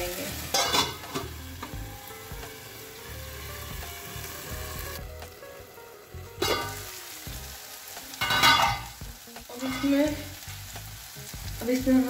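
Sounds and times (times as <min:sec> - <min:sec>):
faint background music: 0:00.0 - 0:12.0
masala sizzling in a skillet: 0:00.0 - 0:12.0.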